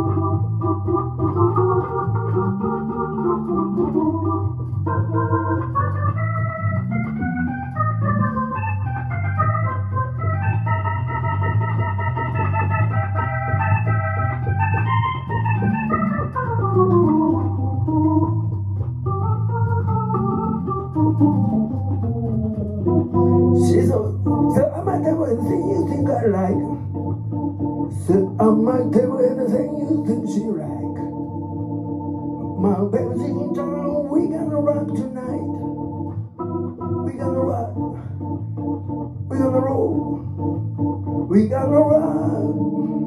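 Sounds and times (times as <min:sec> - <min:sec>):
electric organ playing: 0:00.0 - 0:43.0.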